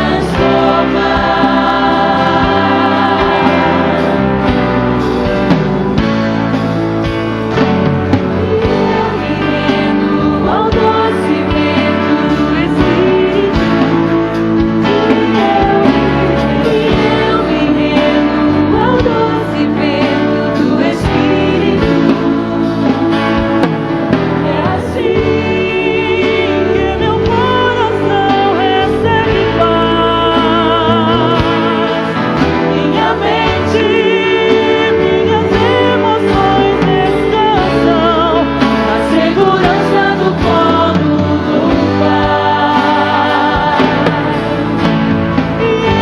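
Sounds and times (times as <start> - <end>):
band playing: 0.0 - 46.0
singers singing: 0.0 - 46.0.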